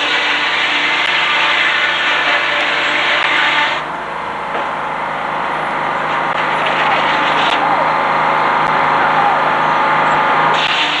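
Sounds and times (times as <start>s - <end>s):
engine drone: 0.0s - 11.0s
loud rushing noise: 0.0s - 11.0s.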